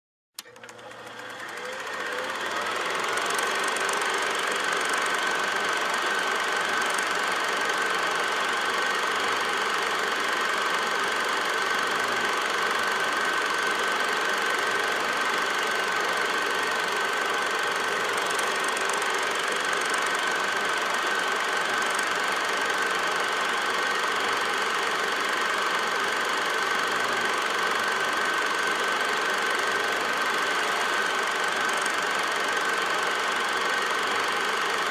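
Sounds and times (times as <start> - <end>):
film projector rattling and whining: 0.4 - 34.9.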